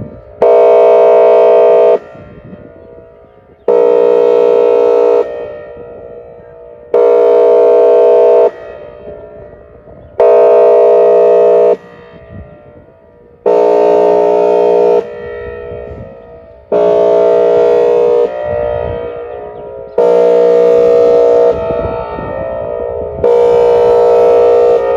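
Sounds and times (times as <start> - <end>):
siren horn blasts: 0.0 - 24.9.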